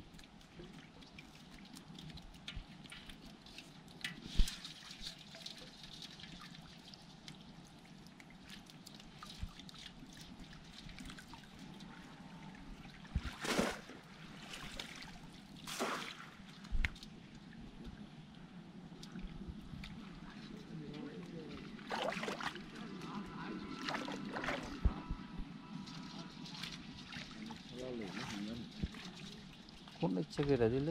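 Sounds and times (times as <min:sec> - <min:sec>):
water splashes: 0:00.0 - 0:18.1, 0:18.9 - 0:25.2, 0:25.8 - 0:30.9
water trickling and dripping: 0:00.0 - 0:30.9.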